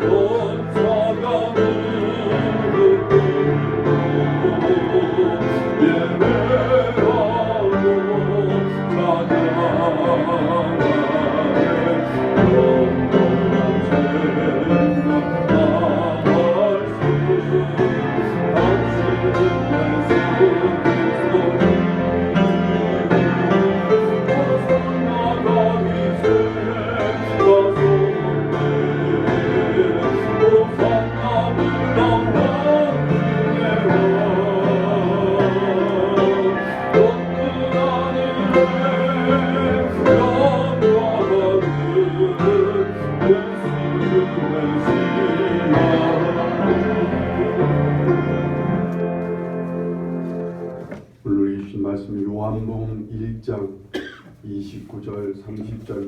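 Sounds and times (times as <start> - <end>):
person singing with vibrato: 0.0 - 49.0.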